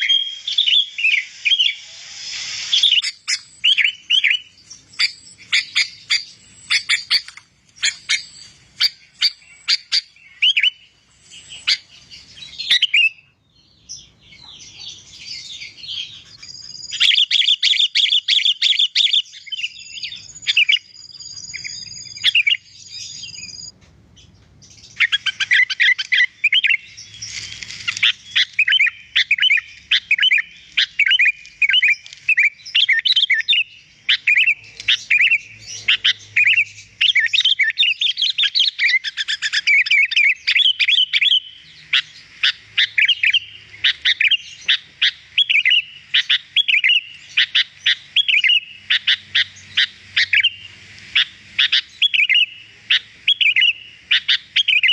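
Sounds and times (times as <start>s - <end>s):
bulbul chirping and twittering: 0.0s - 54.9s.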